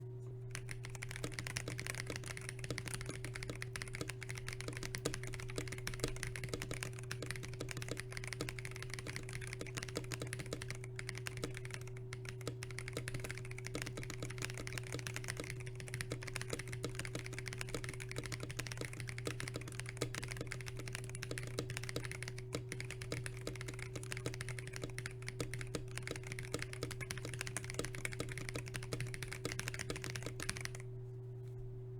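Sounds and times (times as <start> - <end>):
steady low hum: 0.0 - 31.9
mechanical keyboard typing: 0.5 - 30.8.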